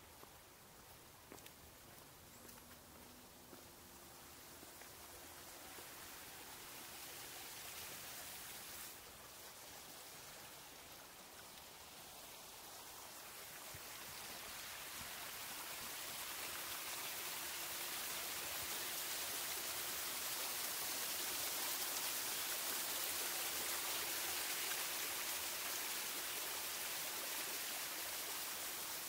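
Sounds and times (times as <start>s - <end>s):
waterfall splashing over rocks: 4.0s - 29.0s.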